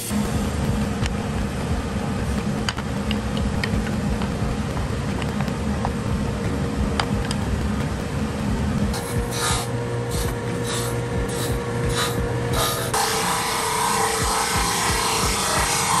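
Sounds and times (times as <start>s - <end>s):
drum sander rasping: 0.0s - 16.0s
machine hum: 0.0s - 16.0s.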